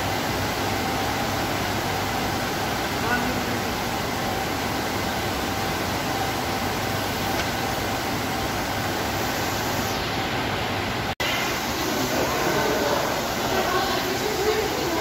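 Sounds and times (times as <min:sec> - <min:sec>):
aquarium water and aeration hiss: 0:00.0 - 0:15.0.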